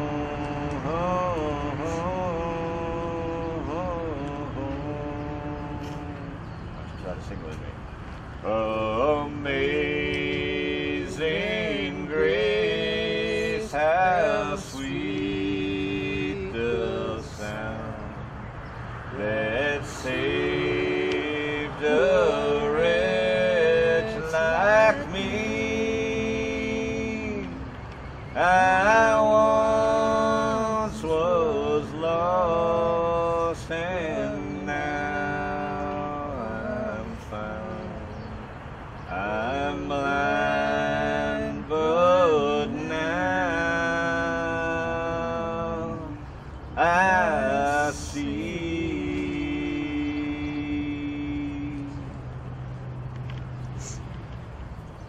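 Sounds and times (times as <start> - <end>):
man singing slow song: 0.0 - 6.5, 8.4 - 18.4, 19.1 - 38.5, 39.1 - 52.2.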